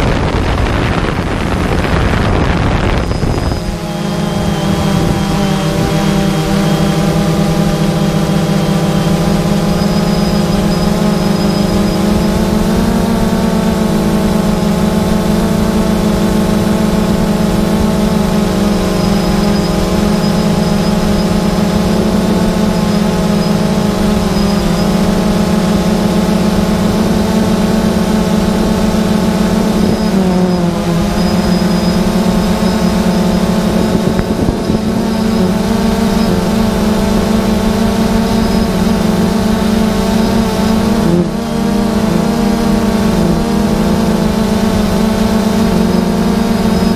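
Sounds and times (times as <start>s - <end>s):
drone propellers humming: 0.0s - 46.9s.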